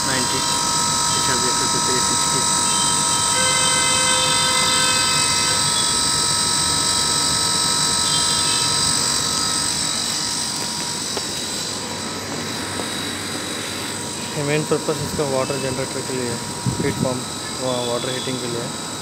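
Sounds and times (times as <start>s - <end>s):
heat pump mechanical whirr: 0.0s - 19.0s
high whining tones: 0.0s - 19.0s.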